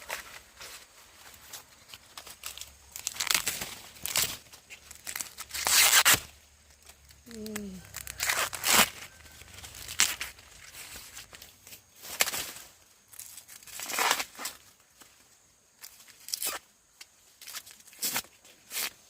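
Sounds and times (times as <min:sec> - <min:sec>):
dry corn husks tearing and rustling: 0:00.0 - 0:19.0.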